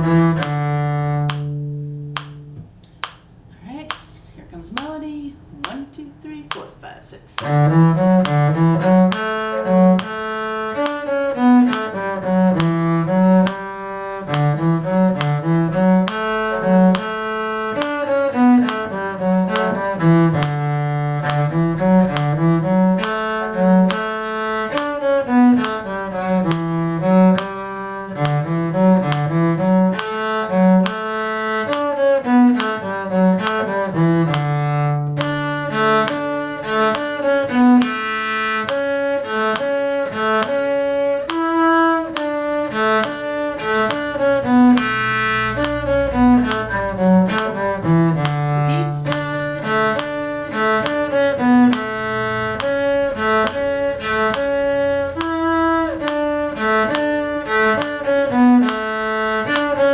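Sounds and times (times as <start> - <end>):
bowed strings playing melody: 0.0 - 3.2, 7.4 - 59.9
low cello line: 0.0 - 59.9.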